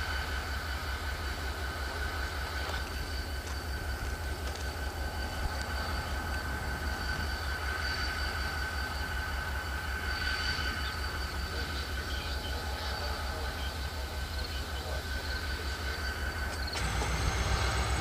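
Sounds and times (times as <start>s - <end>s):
high-pitched whine: 0.0s - 18.0s
locomotive engine drone: 0.0s - 18.0s.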